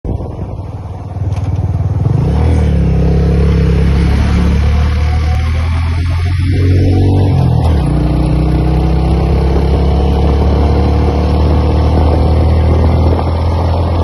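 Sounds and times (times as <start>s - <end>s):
motorcycle engine pulling away: 1.2s - 14.0s.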